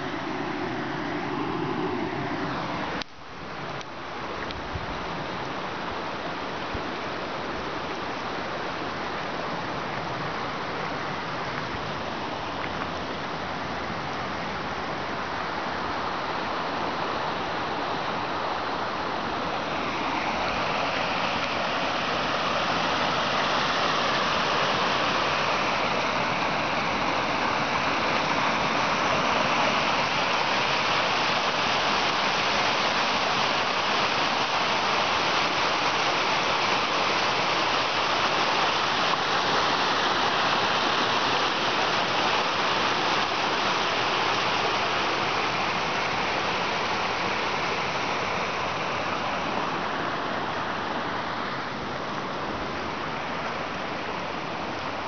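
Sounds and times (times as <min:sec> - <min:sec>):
creek splashing over boulders: 0:00.0 - 0:55.0.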